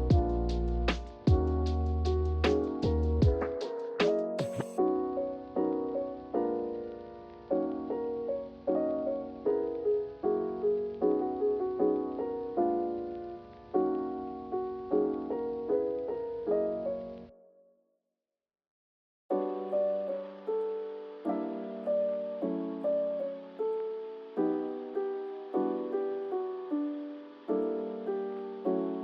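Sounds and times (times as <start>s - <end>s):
gentle piano chords: 0.0s - 17.6s, 19.3s - 29.0s.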